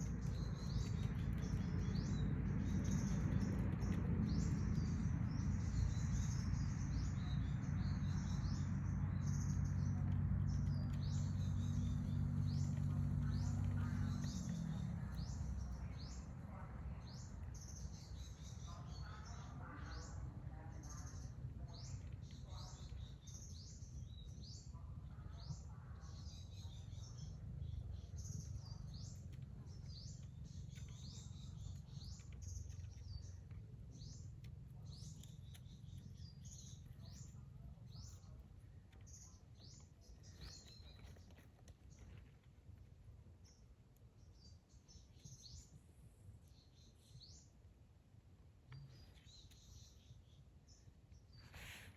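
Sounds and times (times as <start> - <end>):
low steady hum: 0.0 - 51.9
small birds chirping: 0.0 - 51.9.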